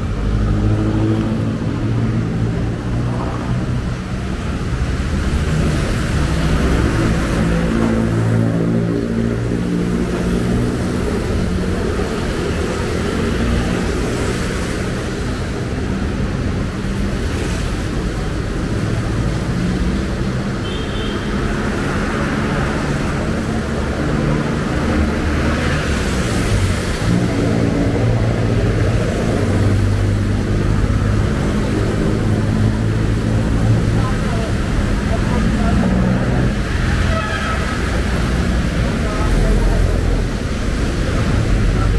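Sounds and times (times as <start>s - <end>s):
vehicle engines in street traffic: 0.0s - 41.9s.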